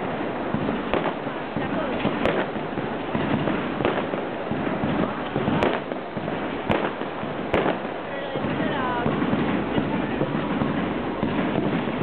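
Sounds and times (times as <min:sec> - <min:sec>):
firework bangs: 0:00.0 - 0:12.0
fireworks crackling: 0:00.0 - 0:12.0.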